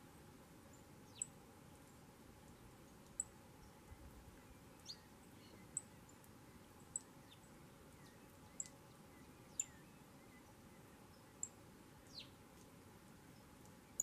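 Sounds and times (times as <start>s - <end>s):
faint background hiss: 0.0s - 14.0s
small birds chirping: 0.0s - 14.0s.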